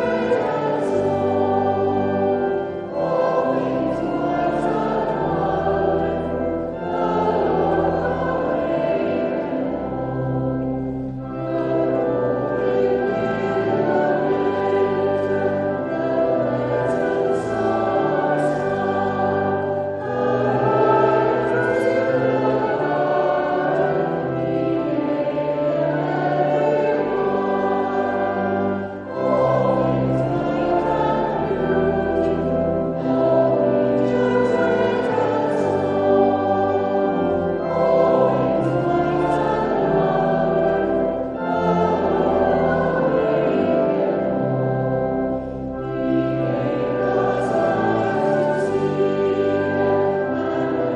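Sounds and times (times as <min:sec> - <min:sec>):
choir singing a hymn: 0:00.0 - 0:50.9
sustained low accompaniment: 0:00.0 - 0:50.9.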